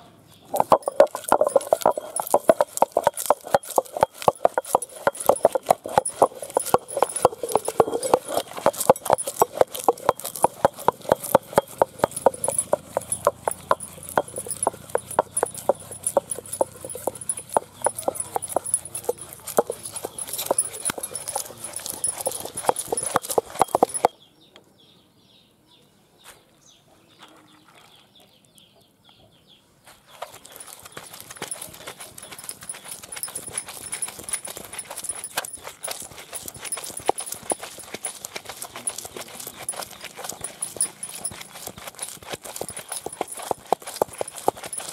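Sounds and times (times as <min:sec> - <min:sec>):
stone grinder knocking rhythmically: 0:00.5 - 0:24.1, 0:30.4 - 0:44.9.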